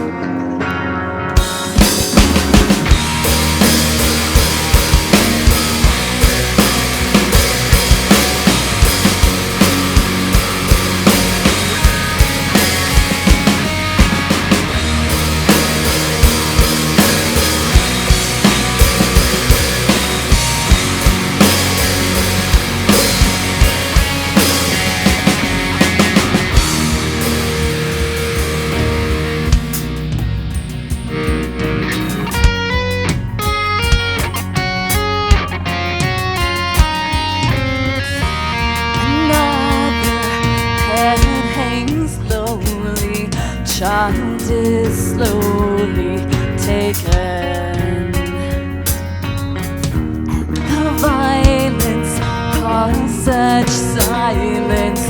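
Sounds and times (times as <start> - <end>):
distorted electric guitar: 0.0 - 55.0
rock band playing: 0.0 - 55.0
drum kit beat: 1.4 - 55.0.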